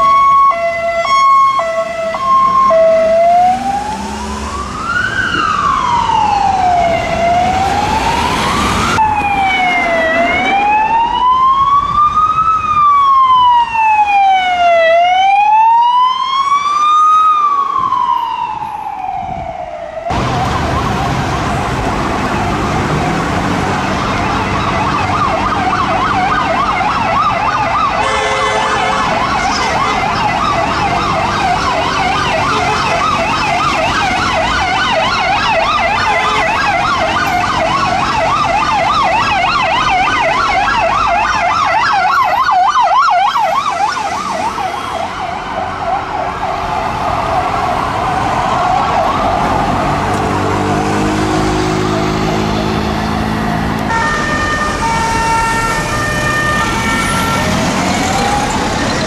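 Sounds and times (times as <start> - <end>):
ambulance siren yelping: 0.0 - 59.0
city traffic hum: 0.0 - 59.0.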